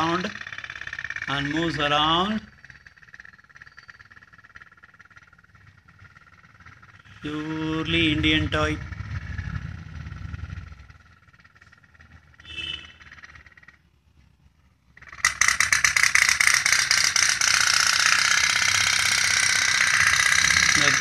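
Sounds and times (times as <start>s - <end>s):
toy boat putt-putt rattle: 0.0s - 8.4s, 10.4s - 13.9s, 14.9s - 21.0s.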